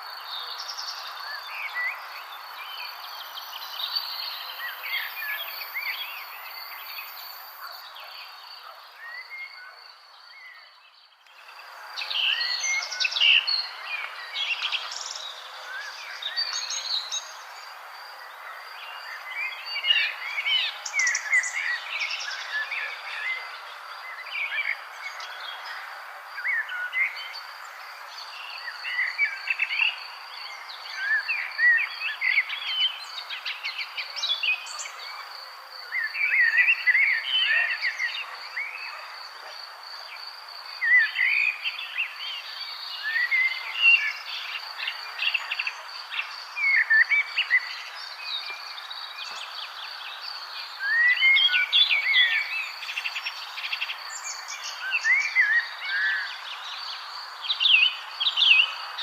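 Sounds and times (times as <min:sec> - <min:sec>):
background ambience hiss: 0:00.0 - 0:59.0
songbirds chirping and warbling: 0:00.0 - 0:59.0.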